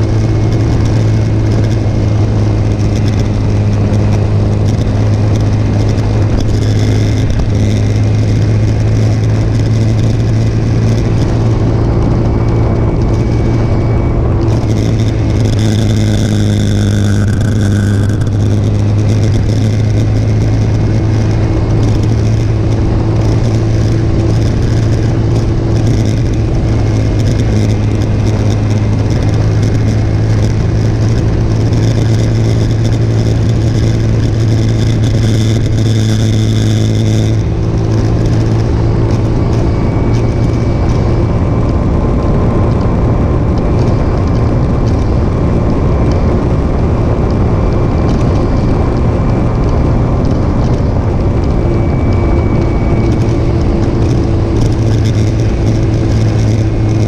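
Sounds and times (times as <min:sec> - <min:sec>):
high whine: 0:00.0 - 0:57.0
motorcycle engine running: 0:00.0 - 0:57.0
wind and road noise: 0:00.0 - 0:57.0.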